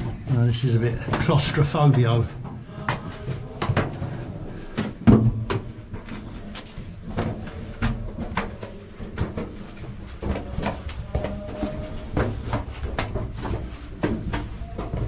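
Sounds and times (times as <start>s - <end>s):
boot footsteps on stone stairs: 0.0s - 15.0s.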